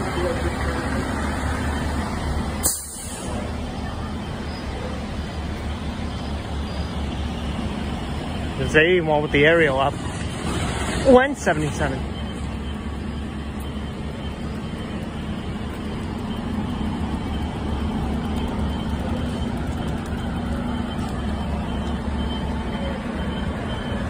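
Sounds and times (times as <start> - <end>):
diesel engines running: 0.0 - 24.0.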